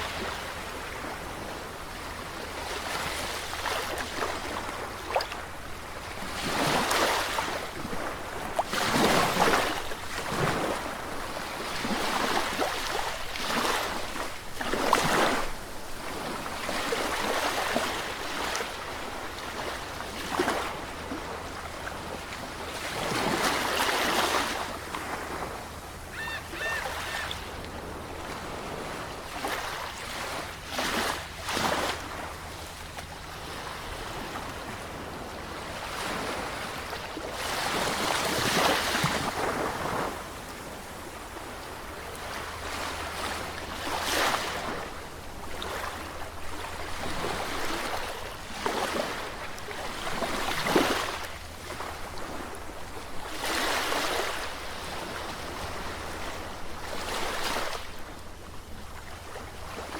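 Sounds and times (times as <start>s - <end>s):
low rumble of surf: 0.0s - 59.9s
sea waves breaking on shore: 0.0s - 59.9s.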